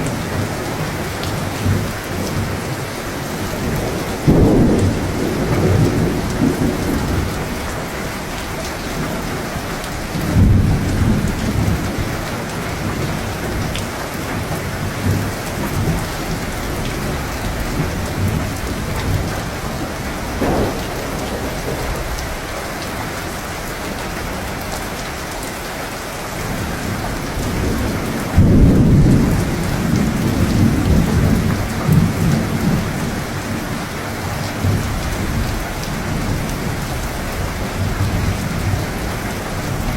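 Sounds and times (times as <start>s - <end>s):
thunder rumbling: 0.0s - 25.0s, 26.4s - 33.9s
heavy rain: 0.0s - 39.9s.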